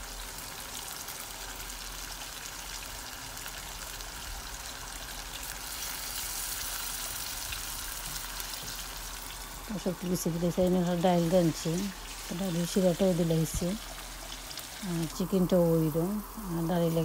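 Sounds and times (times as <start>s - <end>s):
curry sizzling in a metal pan: 0.0s - 17.0s.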